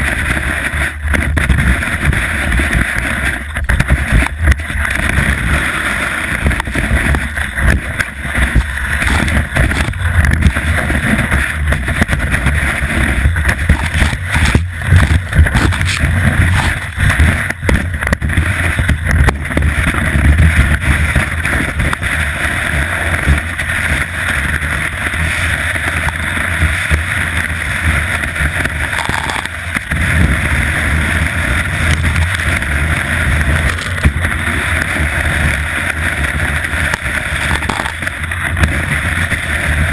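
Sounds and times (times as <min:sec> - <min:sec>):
skis scraping over snow: 0:00.0 - 0:39.9
wind on microphone: 0:00.0 - 0:39.9.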